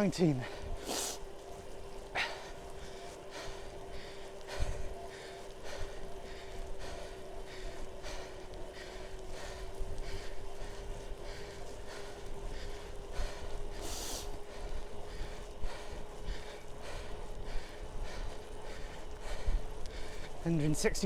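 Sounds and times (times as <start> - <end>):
cyclist breathing hard: 0.0 - 21.0.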